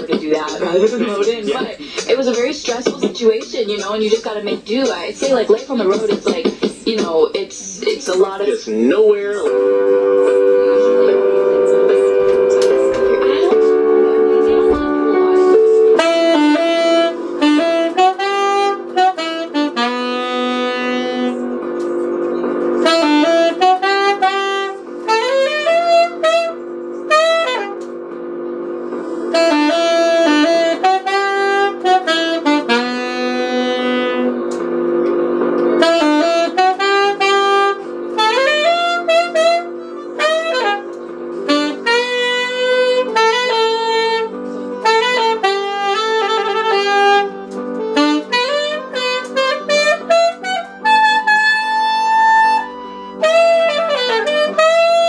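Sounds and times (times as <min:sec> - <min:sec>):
sustained keyboard chords: 0:00.0 - 0:55.0
alto saxophone ballad melody: 0:09.4 - 0:55.0.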